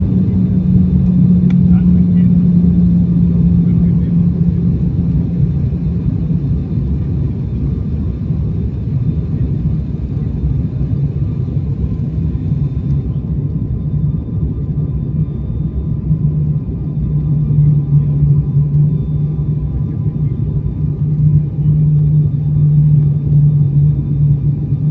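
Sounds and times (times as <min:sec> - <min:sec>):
airliner engine rumble: 0:00.0 - 0:24.9
low hum: 0:00.0 - 0:24.9.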